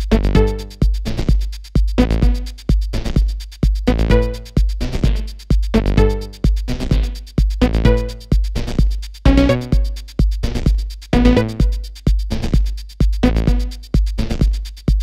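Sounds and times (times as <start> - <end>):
drum machine kick with deep bass: 0.0 - 15.0
fast hi-hats: 0.0 - 15.0.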